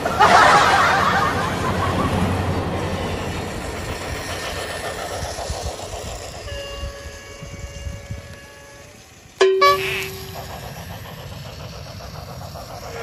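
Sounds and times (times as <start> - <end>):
toy trains running on track: 0.0 - 13.0.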